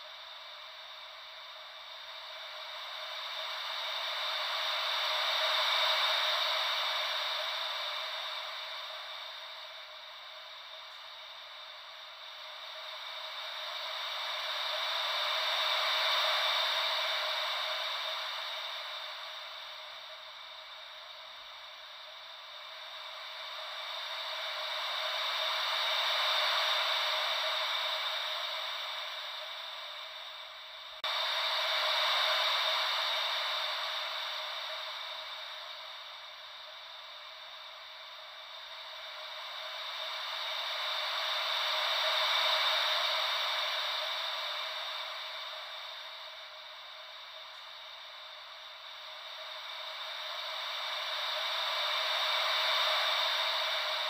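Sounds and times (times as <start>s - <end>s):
ocean wave white noise: 0.0s - 54.0s.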